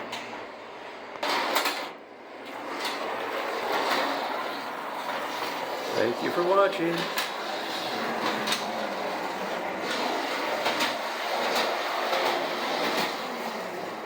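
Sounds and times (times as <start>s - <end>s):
toy trolley whirring rattle: 1.2s - 14.0s.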